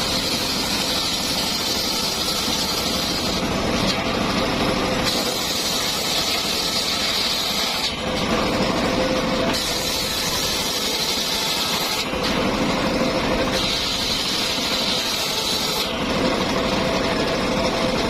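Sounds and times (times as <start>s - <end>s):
circular sawmill whining: 0.0s - 18.0s.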